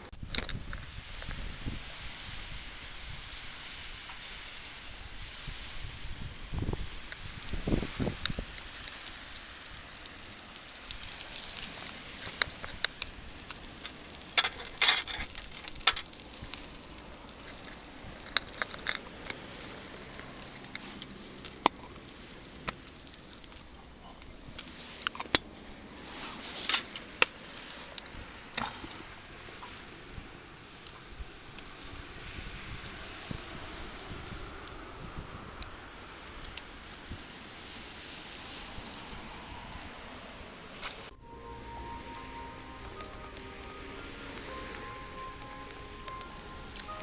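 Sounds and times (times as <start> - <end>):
fire crackling and sizzling: 0.0 - 47.0.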